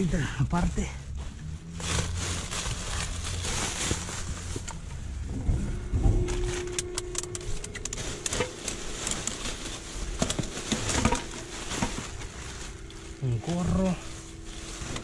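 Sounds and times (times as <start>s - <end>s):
faint steady hum: 0.0s - 15.0s
plastic bags rustling: 0.0s - 15.0s.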